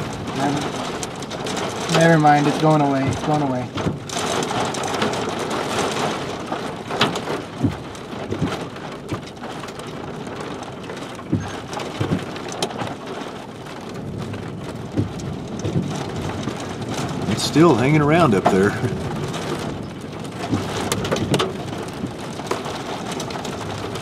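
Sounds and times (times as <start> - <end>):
rain falling: 0.0 - 24.0
raindrops tapping: 0.0 - 24.0.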